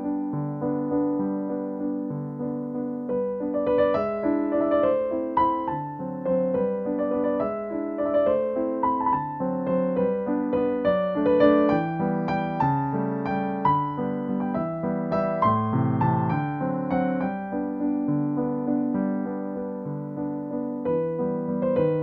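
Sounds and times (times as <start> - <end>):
electric piano melody: 0.0 - 22.0.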